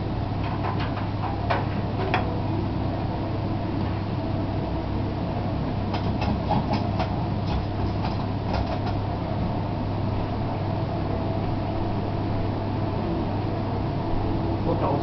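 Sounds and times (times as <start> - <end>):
forge humming and rushing air: 0.0 - 15.0.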